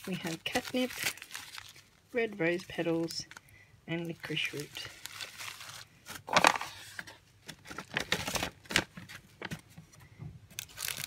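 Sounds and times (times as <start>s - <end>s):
plastic and paper bags crinkling: 0.0s - 9.9s, 10.5s - 11.0s.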